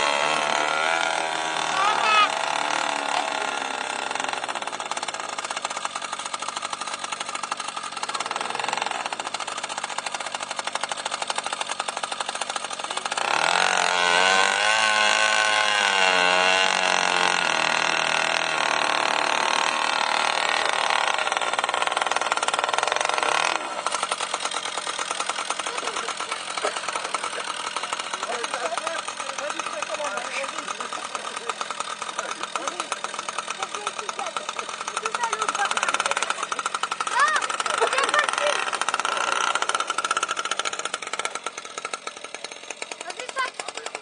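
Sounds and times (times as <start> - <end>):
small two-stroke engine revving: 0.0 - 44.0.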